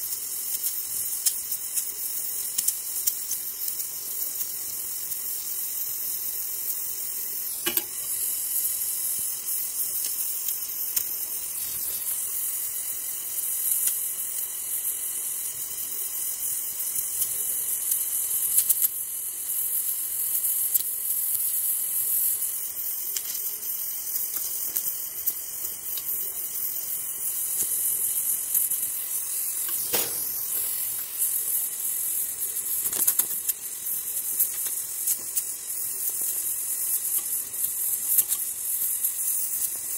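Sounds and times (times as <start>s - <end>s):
welding torch flame hissing: 0.0s - 39.9s.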